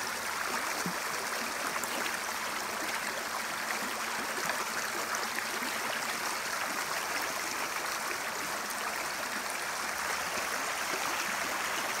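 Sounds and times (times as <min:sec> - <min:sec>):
creek water over gravel: 0:00.0 - 0:12.0.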